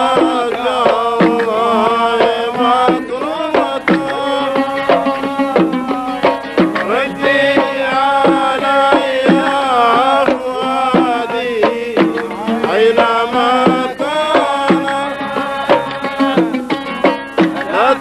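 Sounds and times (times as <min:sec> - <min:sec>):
hand drums beating: 0:00.0 - 0:18.0
oud: 0:00.0 - 0:18.0.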